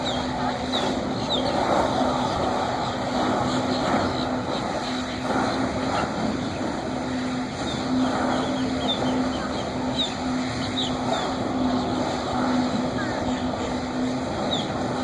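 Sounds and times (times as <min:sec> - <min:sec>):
jet ski engine running: 0:00.0 - 0:15.0
water jet rushing: 0:00.0 - 0:15.0.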